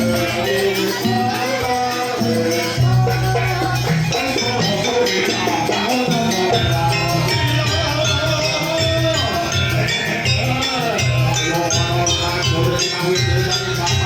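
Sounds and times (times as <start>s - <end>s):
jingling metallic percussion: 0.0s - 14.0s
pulsing drum beat: 0.0s - 14.0s
wavering melody: 0.0s - 14.0s.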